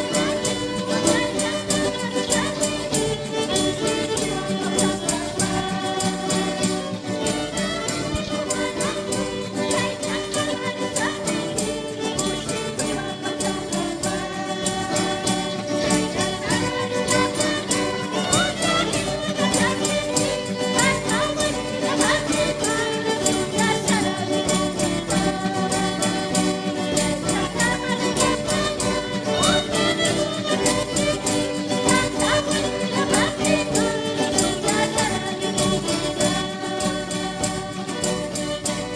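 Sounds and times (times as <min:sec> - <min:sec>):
church music group playing: 0:00.0 - 0:38.9
people singing: 0:00.0 - 0:38.9
violin: 0:00.0 - 0:38.9.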